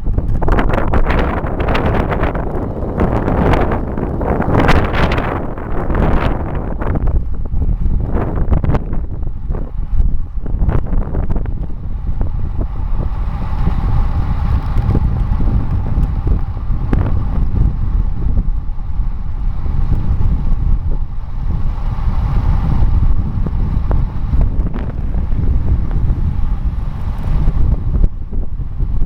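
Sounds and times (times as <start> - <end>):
steady hum: 0.0 - 29.0
wind buffeting microphone: 0.0 - 29.0.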